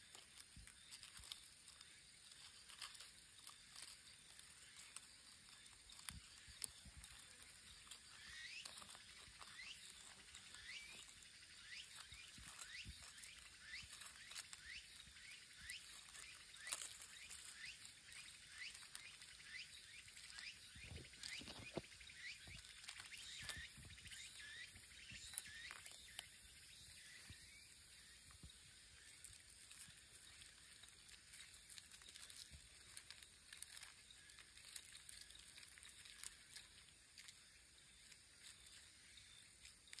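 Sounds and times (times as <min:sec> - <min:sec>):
soft ticks and rustles: 0:00.0 - 0:40.0.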